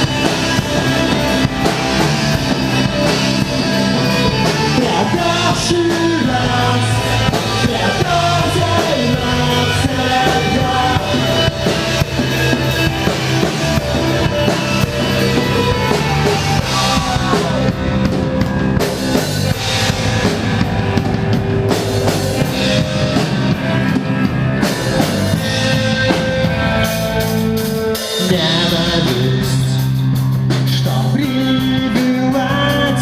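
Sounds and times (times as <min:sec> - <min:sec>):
live punk rock instrumental: 0:00.0 - 0:33.0.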